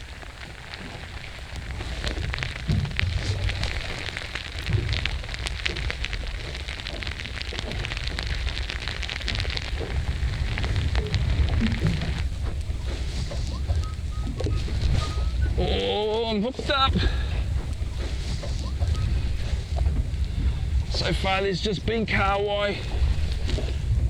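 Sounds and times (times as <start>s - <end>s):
rain falling: 0.0s - 24.0s
wind rumbling on microphone: 0.0s - 24.0s.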